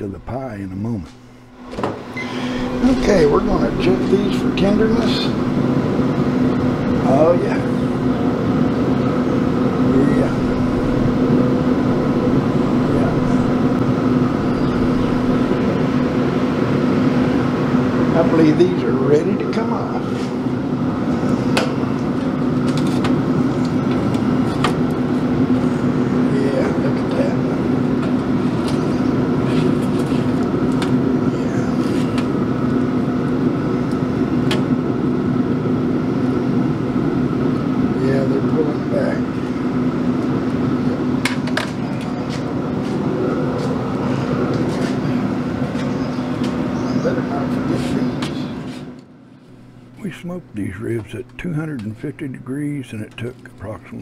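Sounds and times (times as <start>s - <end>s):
smoker fan humming: 0.0s - 54.0s.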